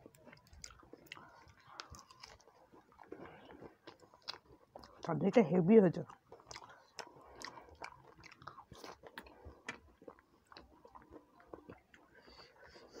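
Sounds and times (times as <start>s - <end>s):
person chewing with mouth clicks: 0.0s - 5.2s, 6.1s - 13.0s.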